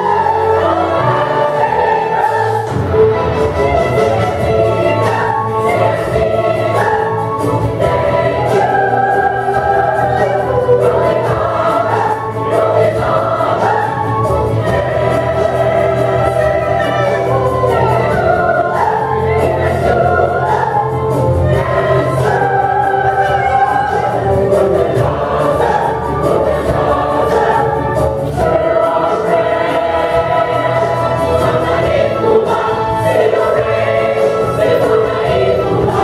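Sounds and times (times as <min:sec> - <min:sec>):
chorus singing: 0:00.0 - 0:36.0
instrumental accompaniment with beat: 0:00.0 - 0:36.0.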